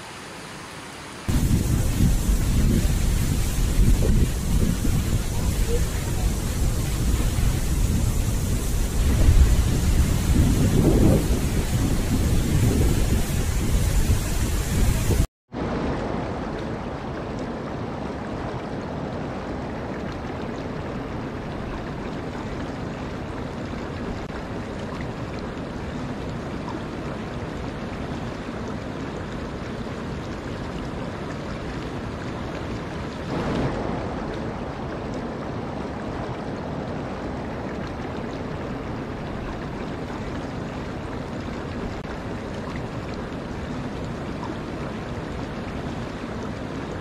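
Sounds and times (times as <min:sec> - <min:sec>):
river water rushing: 0:00.0 - 0:47.0.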